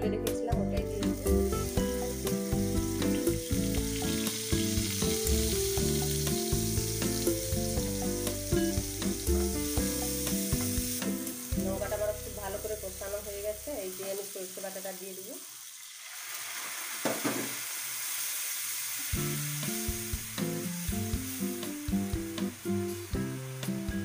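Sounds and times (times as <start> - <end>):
background music: 0.0 - 14.3, 19.0 - 24.0
paste sizzling in hot oil: 0.9 - 24.0.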